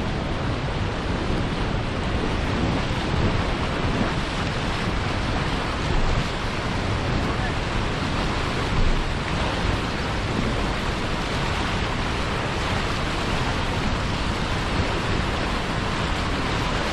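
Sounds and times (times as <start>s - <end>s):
sea surf rushing: 0.0s - 16.9s.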